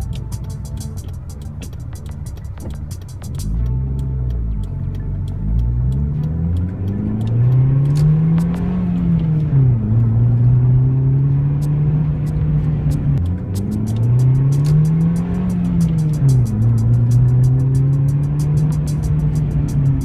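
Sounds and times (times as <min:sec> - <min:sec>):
car engine accelerating and shifting: 0:00.0 - 0:20.0.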